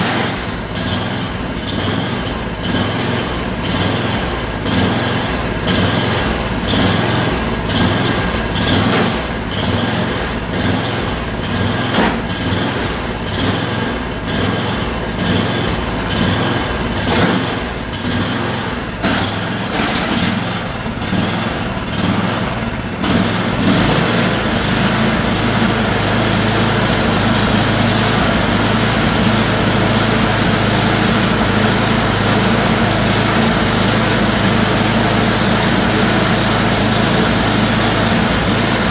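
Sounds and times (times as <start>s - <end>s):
snowblower engine running: 0.0s - 38.9s.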